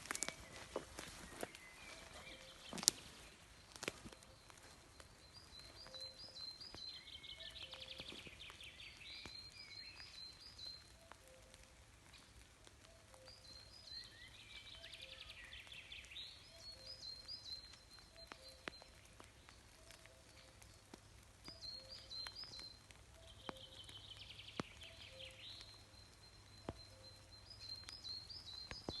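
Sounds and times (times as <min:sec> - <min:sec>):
songbird singing trills: 0:00.0 - 0:29.0.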